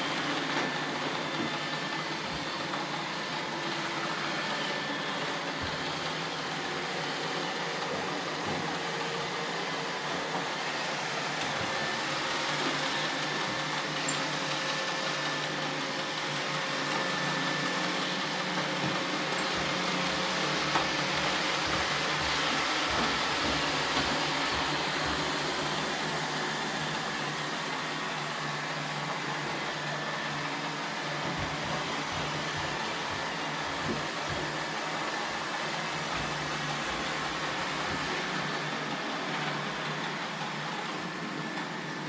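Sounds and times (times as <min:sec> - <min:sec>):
robot vacuum whirring: 0:00.0 - 0:42.0.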